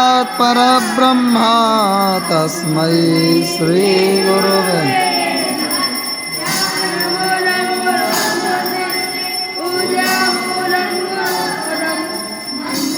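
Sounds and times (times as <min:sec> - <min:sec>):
bells ringing: 0:00.0 - 0:12.9
children chanting a hymn: 0:00.0 - 0:12.9
sharp bell strike: 0:00.9 - 0:12.9.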